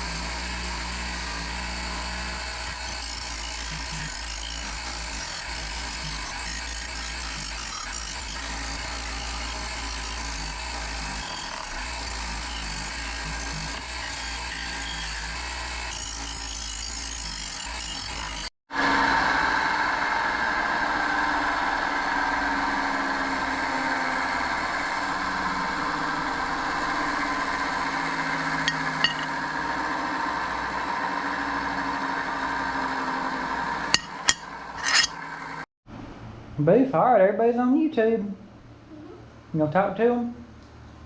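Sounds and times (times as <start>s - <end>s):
small motor running: 0.0s - 35.6s.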